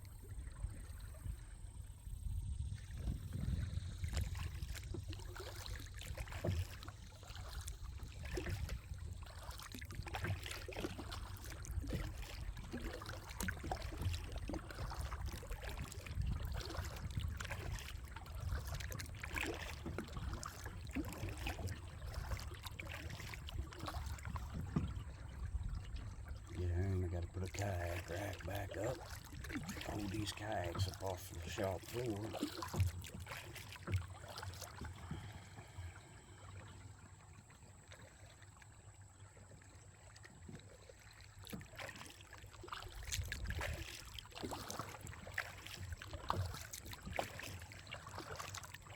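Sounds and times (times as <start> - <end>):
paddle splashing in water: 0.0 - 48.9.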